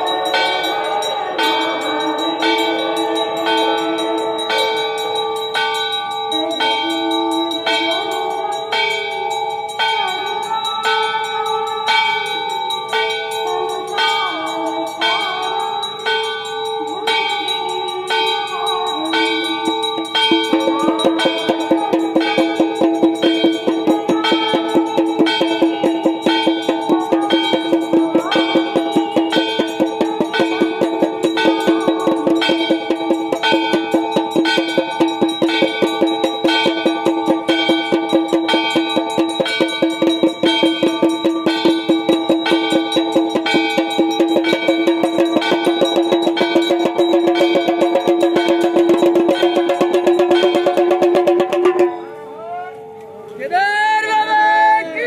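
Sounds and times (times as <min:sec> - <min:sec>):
temple bells ringing: 0:00.0 - 0:54.4.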